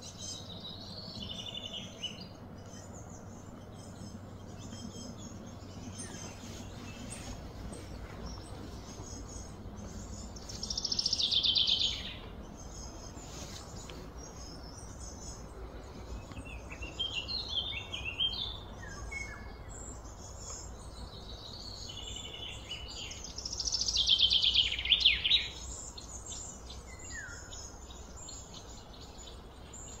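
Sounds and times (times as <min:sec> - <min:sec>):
birds chirping and calling: 0:00.0 - 0:30.0
low outdoor background hum: 0:00.0 - 0:30.0.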